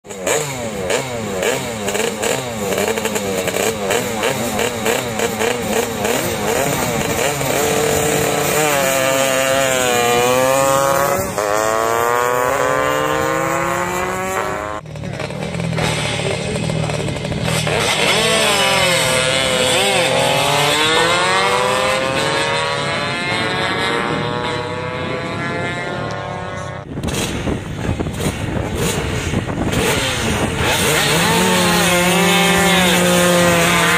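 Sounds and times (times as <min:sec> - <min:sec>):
motorcycle accelerating hard: 0:00.0 - 0:33.9
scooter engine revving: 0:00.0 - 0:33.9.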